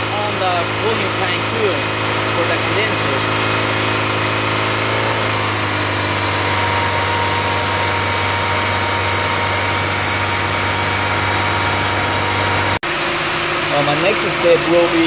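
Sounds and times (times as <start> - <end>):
car engine fast idle: 0.0 - 15.0
cooling fan blowing: 0.0 - 15.0.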